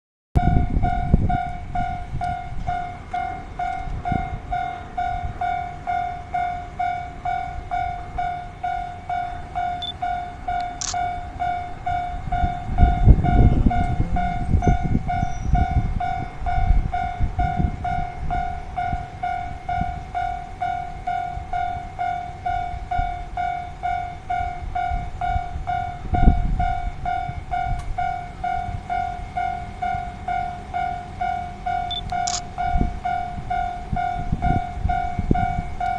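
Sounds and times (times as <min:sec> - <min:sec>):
diesel train rumble: 0:00.4 - 0:35.9
level-crossing warning bell: 0:00.4 - 0:35.9.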